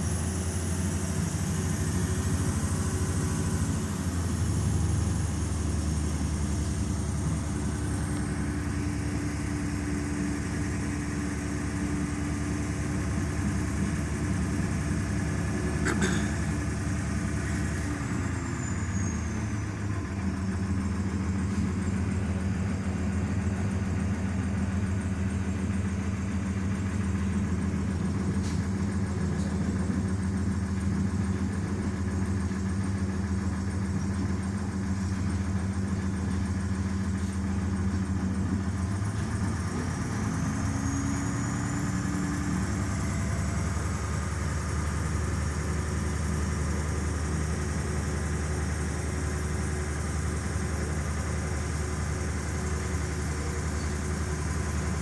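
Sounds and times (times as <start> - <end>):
train engine running: 0.0 - 55.0.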